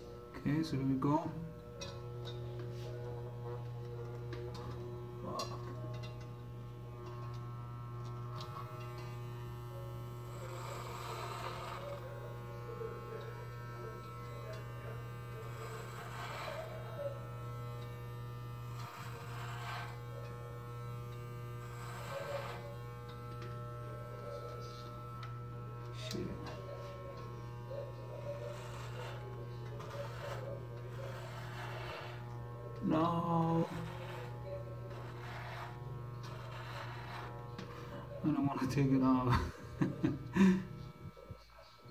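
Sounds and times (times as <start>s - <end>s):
electric hair clippers buzzing: 0.0s - 41.9s
clippers rasping through beard: 1.6s - 39.1s.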